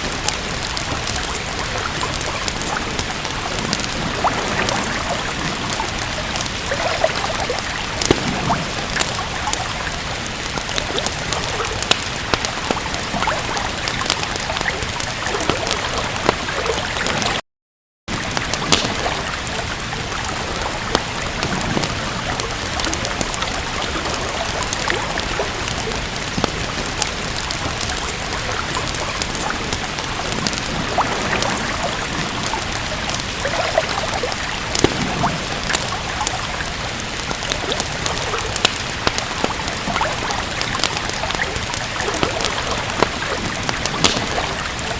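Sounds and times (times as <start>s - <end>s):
steady rain: 0.0s - 17.4s, 18.1s - 44.9s
wood fire crackling: 0.0s - 17.4s, 18.1s - 44.9s.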